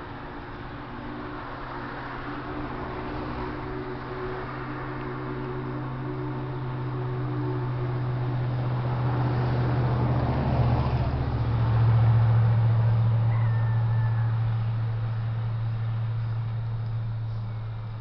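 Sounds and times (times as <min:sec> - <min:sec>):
vehicle engine and tyre hum: 0:00.0 - 0:18.0.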